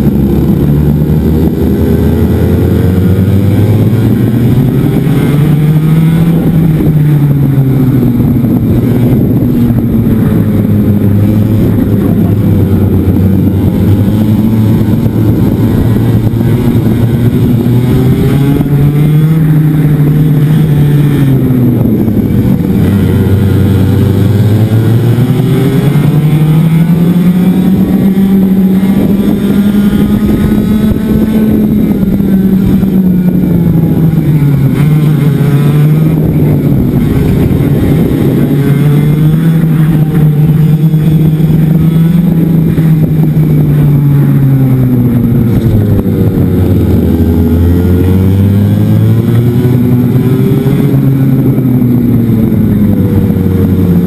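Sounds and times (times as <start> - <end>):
kart engine revving: 0.0 - 54.0
other kart engines: 0.0 - 54.0.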